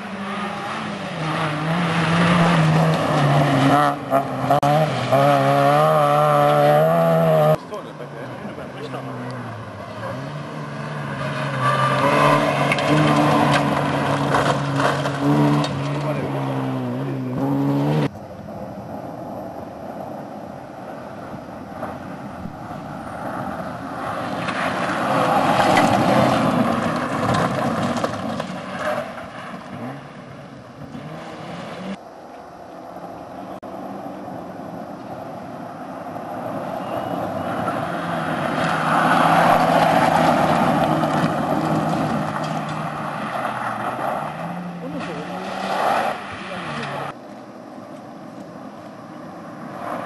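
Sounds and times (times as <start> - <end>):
rally cars passing at high revs: 0.0 - 50.0.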